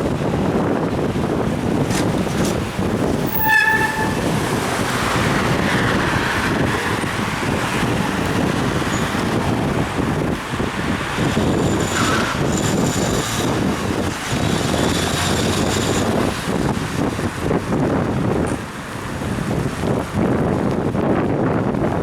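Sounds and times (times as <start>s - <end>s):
road and traffic noise: 0.0s - 22.0s
wind buffeting microphone: 0.0s - 22.0s.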